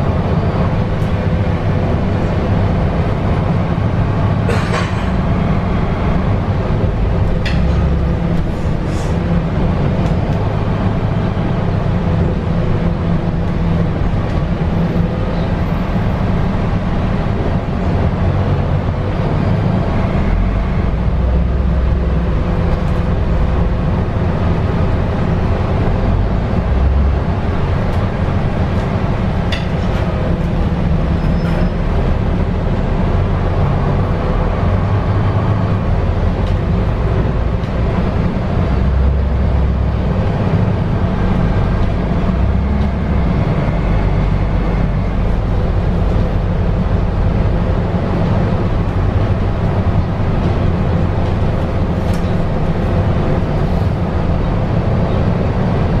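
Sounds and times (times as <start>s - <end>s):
bus diesel engine running: 0.0s - 56.0s
tyre and road rumble: 0.0s - 56.0s.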